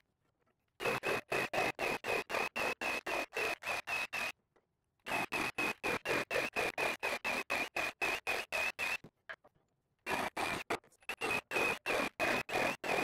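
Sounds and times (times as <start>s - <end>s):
reciprocating saw cutting wood: 0.8s - 4.4s, 5.0s - 9.1s, 10.0s - 13.0s.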